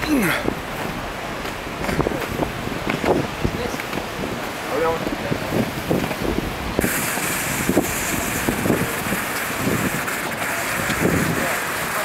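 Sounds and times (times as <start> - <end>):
bicycle tyre road noise: 0.0 - 12.0
wind rushing over microphone: 0.0 - 12.0.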